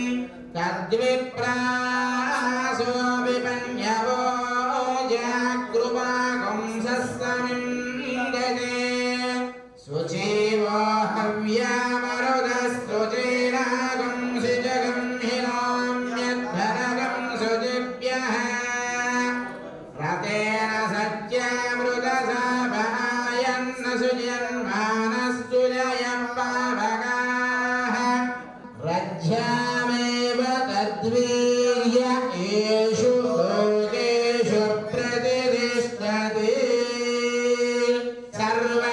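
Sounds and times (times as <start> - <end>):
man singing slow melody: 0.0 - 38.9.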